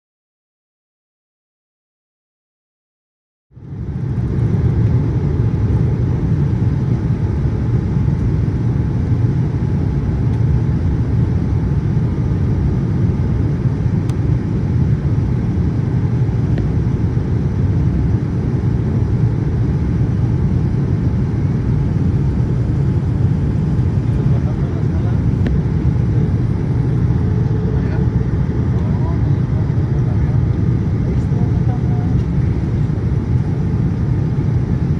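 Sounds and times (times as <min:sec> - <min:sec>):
airliner engines rumbling in cabin: 0:03.6 - 0:34.9.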